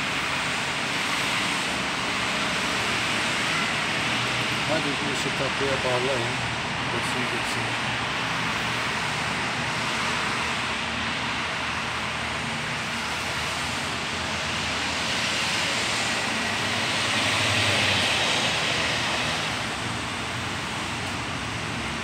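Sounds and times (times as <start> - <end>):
low hum of distant traffic: 0.0 - 22.0.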